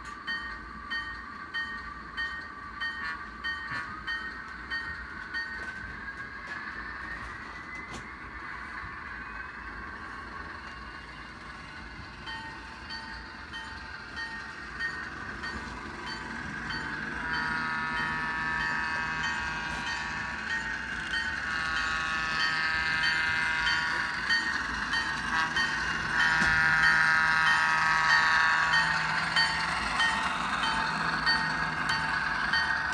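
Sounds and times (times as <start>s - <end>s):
diesel locomotive sound from small speaker: 0.0s - 32.9s
locomotive bell ringing: 0.0s - 32.9s.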